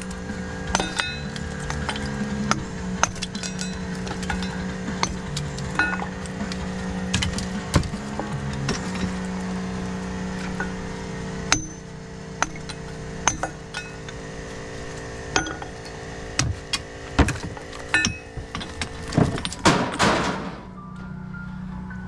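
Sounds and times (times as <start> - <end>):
metal parts clinking and knocking: 0.0 - 20.7
scraping clatter: 0.0 - 20.7
steady low hum: 0.0 - 22.0.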